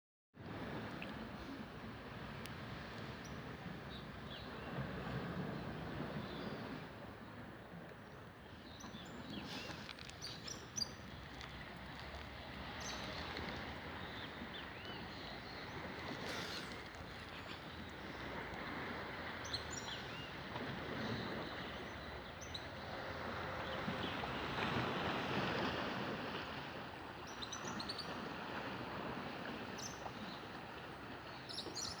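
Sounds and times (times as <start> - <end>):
waves washing on beach: 0.4 - 32.0.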